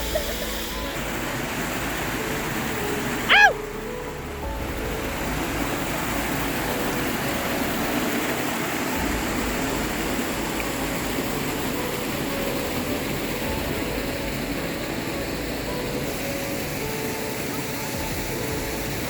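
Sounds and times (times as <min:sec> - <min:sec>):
small waterfall rushing: 0:00.0 - 0:19.0.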